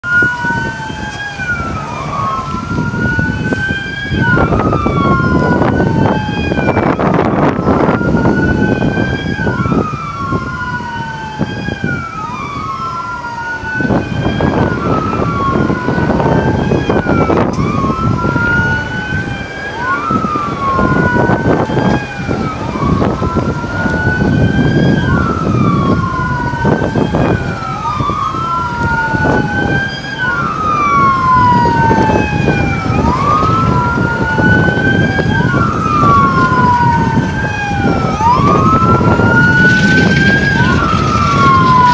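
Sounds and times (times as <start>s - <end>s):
low rumble of vehicles: 0.0s - 41.9s
police sirens wailing: 0.0s - 41.9s.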